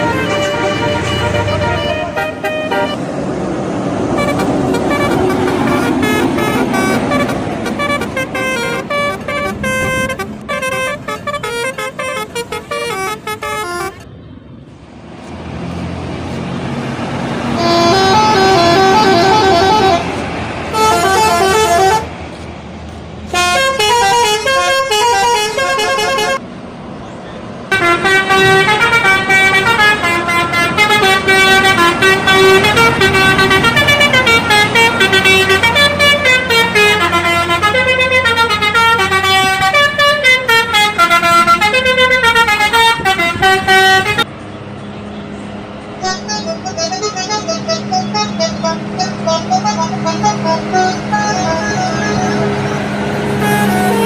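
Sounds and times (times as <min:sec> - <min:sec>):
musical air horns playing tunes: 0:00.0 - 0:03.0, 0:04.1 - 0:14.0, 0:17.5 - 0:22.2, 0:23.3 - 0:26.4, 0:27.7 - 0:44.3, 0:46.0 - 0:54.0.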